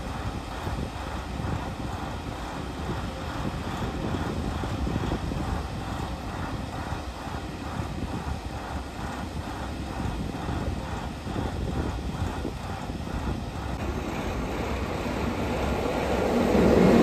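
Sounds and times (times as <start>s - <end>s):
diesel locomotive engine running: 0.0s - 17.0s
wind buffeting the microphone: 0.0s - 17.0s.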